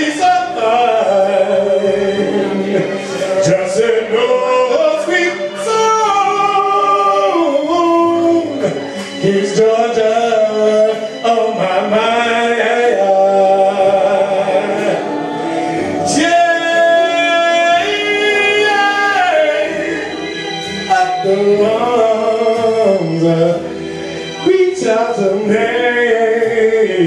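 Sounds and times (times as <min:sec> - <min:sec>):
man singing into microphone: 0:00.0 - 0:27.0.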